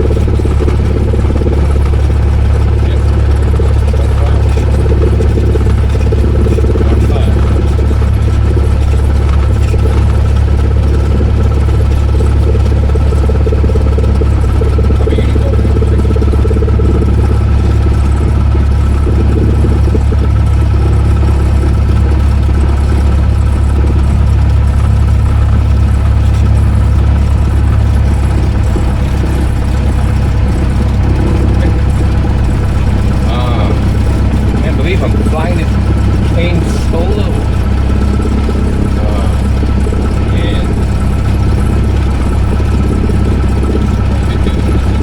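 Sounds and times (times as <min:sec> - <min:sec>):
small plane engine droning: 0:00.0 - 0:45.0.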